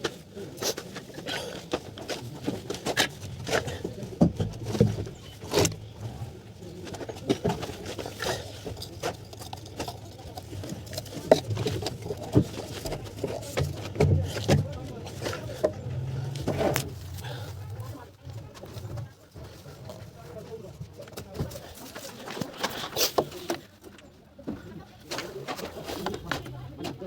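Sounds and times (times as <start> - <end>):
faint background voices: 0.0 - 27.0.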